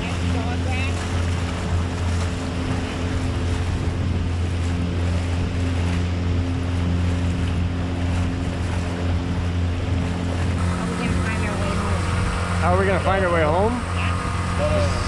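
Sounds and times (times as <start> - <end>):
boat motor droning: 0.0 - 15.0
water rushing past hull: 0.0 - 15.0
wind on microphone: 0.0 - 15.0.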